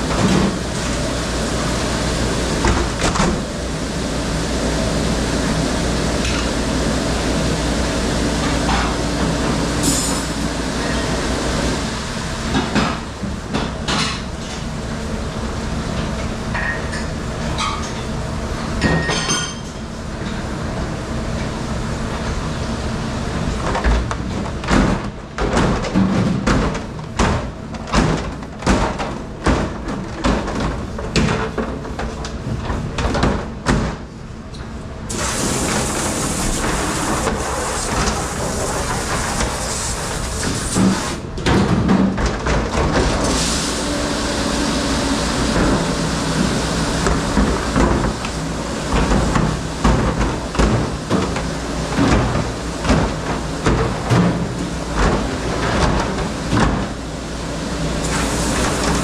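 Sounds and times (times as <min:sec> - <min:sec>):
dish machine humming and washing: 0:00.0 - 0:59.0.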